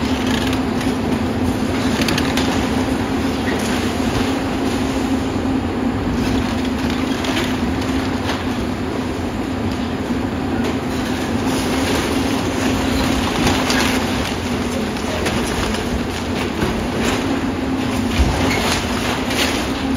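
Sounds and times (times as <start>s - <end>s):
demolition attachment crunching: 0.0s - 19.9s
excavator diesel engine running: 0.0s - 19.9s.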